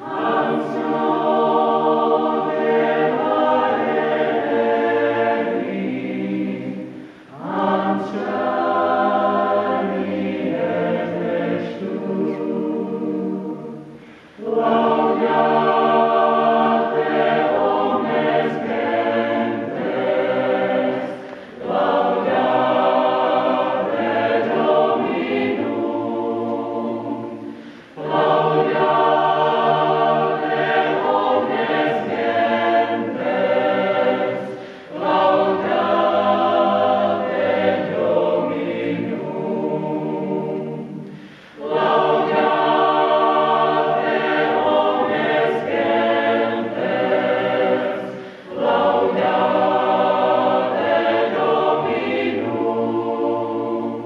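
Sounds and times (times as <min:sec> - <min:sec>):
mixed choir singing held chords: 0:00.0 - 0:54.0.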